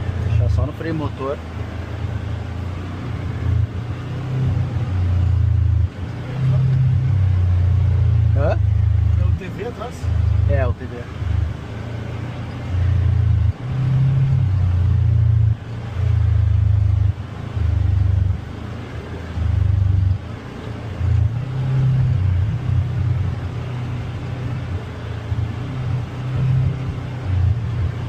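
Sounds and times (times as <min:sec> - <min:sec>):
off-road vehicle rumbling: 0:00.0 - 0:28.0.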